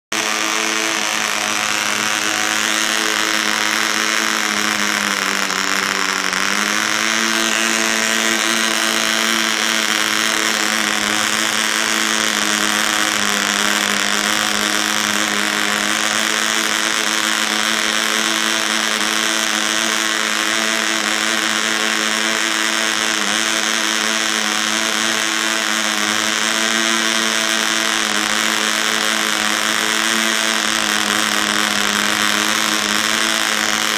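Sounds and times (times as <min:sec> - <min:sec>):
small model engine running: 0:00.1 - 0:33.9.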